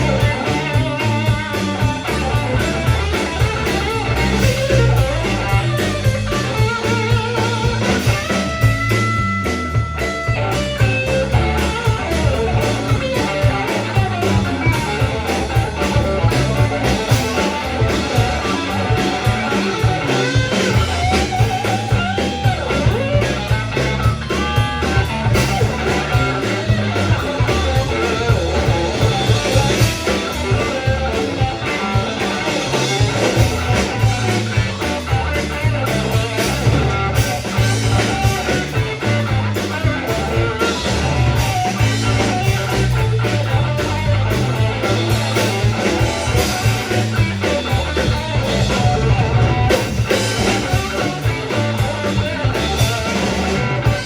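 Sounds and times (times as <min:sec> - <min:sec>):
bass: 0:00.0 - 0:54.0
drum kit: 0:00.0 - 0:54.0
rock music with guitar: 0:00.0 - 0:54.0.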